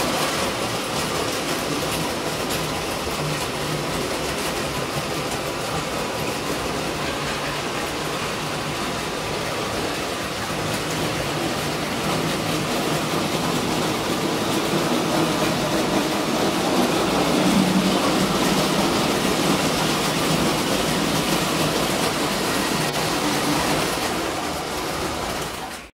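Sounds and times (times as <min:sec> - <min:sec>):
model train rattling on rails: 0:00.0 - 0:25.9.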